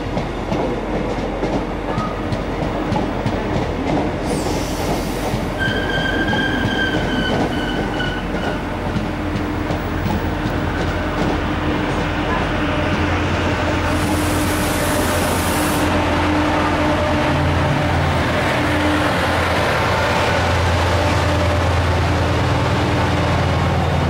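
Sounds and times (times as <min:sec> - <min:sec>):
train rolling past on rails: 0:00.0 - 0:24.0.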